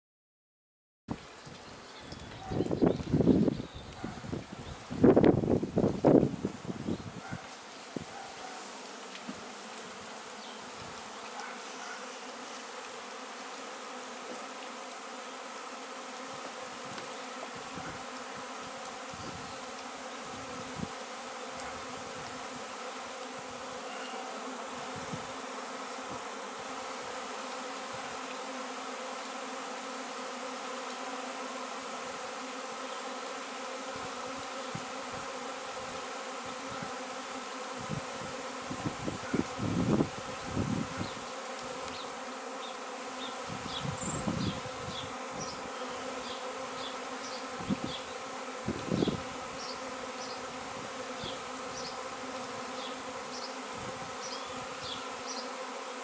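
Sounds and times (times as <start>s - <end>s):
bee swarm humming: 1.2s - 56.0s.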